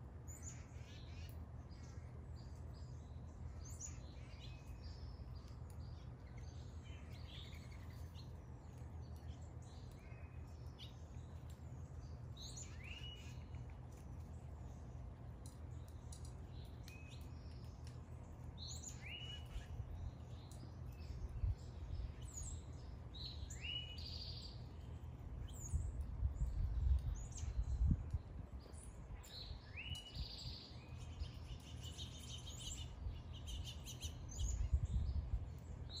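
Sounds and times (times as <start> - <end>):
songbirds singing: 0.0 - 36.0.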